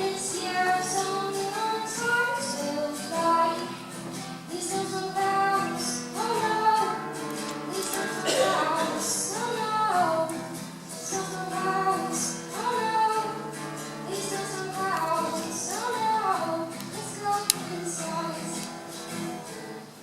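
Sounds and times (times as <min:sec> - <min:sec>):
high voices singing: 0:00.0 - 0:20.0.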